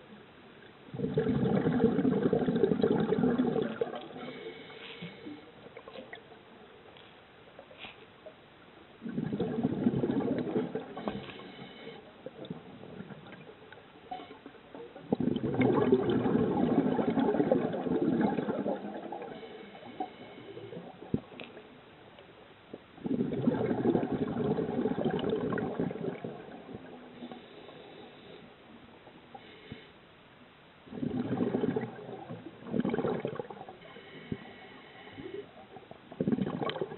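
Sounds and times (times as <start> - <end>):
underwater air bubbling: 0.9 - 6.6, 9.0 - 21.7, 23.0 - 28.5, 30.9 - 36.9.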